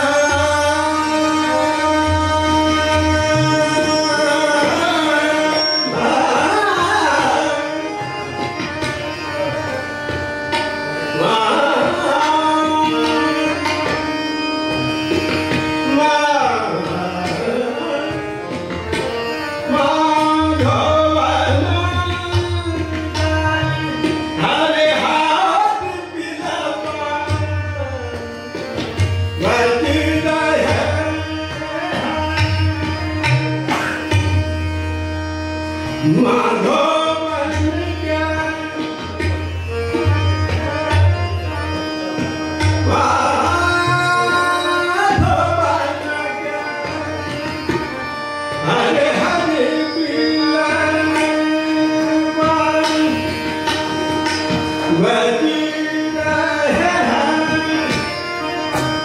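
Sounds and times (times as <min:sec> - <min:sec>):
man singing: 0:00.0 - 0:08.2, 0:11.0 - 0:14.2, 0:15.7 - 0:18.5, 0:19.6 - 0:28.6, 0:29.2 - 0:33.6, 0:36.0 - 0:39.3, 0:40.2 - 0:47.9, 0:48.6 - 0:53.6, 0:54.5 - 0:59.0
tabla playing: 0:00.0 - 0:59.0
tanpura and harmonium drone: 0:00.0 - 0:59.0.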